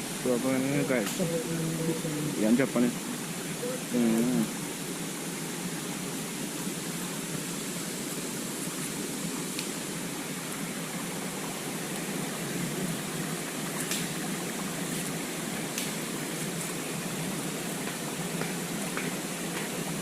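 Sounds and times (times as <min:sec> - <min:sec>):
waterfall and stream rushing: 0:00.0 - 0:20.0.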